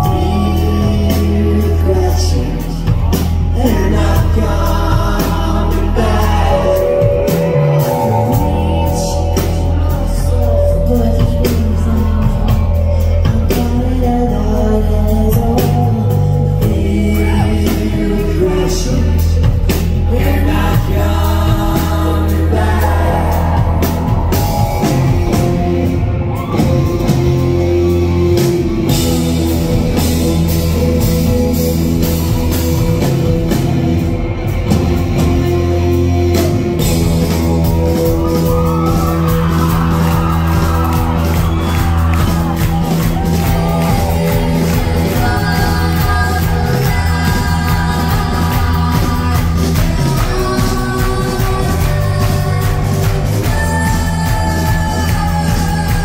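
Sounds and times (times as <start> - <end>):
woman singing: 0.0 - 27.7, 36.8 - 56.0
live rock band playing: 0.0 - 56.0.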